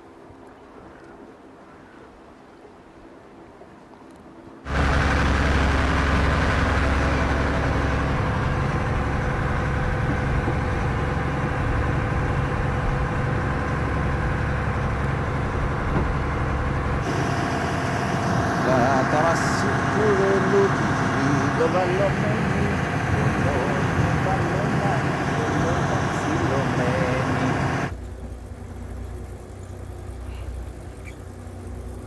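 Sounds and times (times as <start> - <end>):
boat engine running: 4.7 - 32.0.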